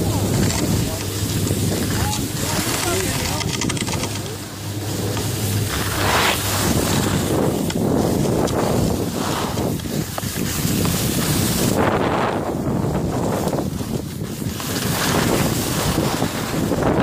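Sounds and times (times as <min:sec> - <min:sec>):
ski edges scraping snow: 0:00.0 - 0:17.0
wind buffeting microphone: 0:00.0 - 0:17.0.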